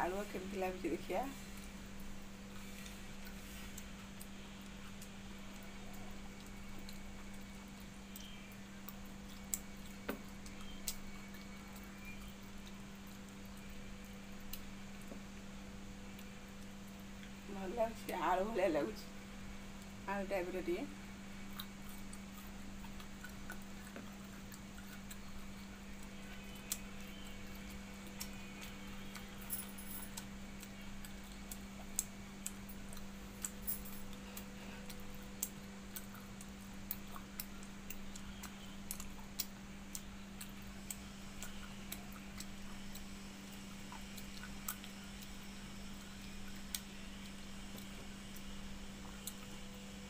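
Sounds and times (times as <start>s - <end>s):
steady low hum: 0.0s - 50.0s
chewing: 2.5s - 15.0s, 21.4s - 29.4s, 30.1s - 49.7s.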